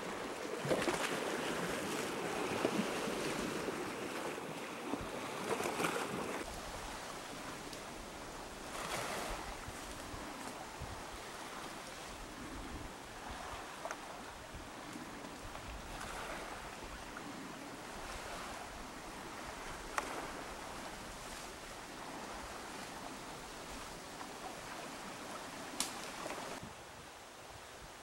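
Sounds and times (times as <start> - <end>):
sea waves washing on shore: 0.0 - 27.8.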